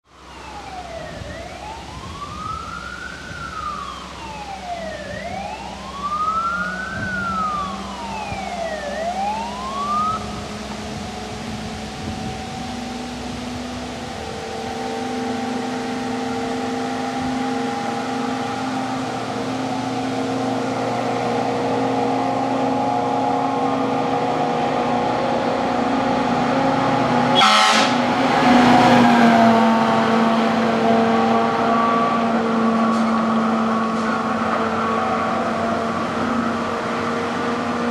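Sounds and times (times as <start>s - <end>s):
diesel truck engine: 0.0s - 37.9s
fire engine siren wailing: 0.1s - 37.9s.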